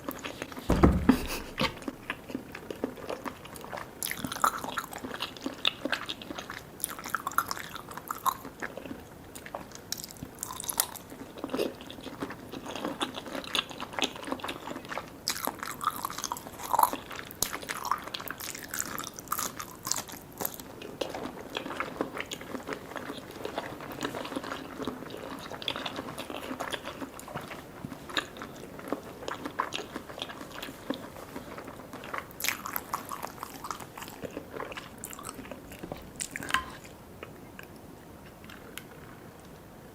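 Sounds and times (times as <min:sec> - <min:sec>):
biting and chewing: 0:00.0 - 0:39.2.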